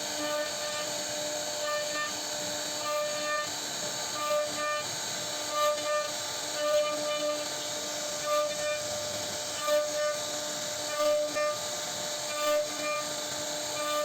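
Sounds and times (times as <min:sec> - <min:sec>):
hiss of cutting wood: 0:00.0 - 0:14.0
router spindle high whine: 0:00.0 - 0:14.0.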